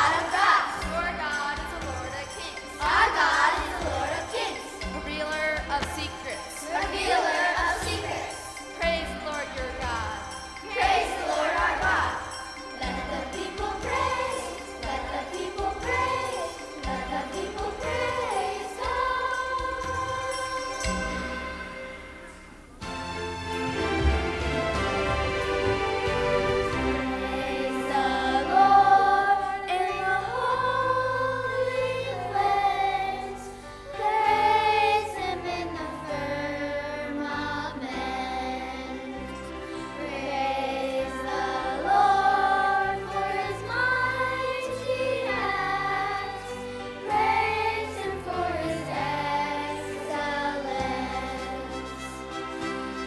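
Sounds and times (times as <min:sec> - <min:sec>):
choir singing: 0:00.0 - 0:53.0
instrumental accompaniment: 0:00.0 - 0:53.0.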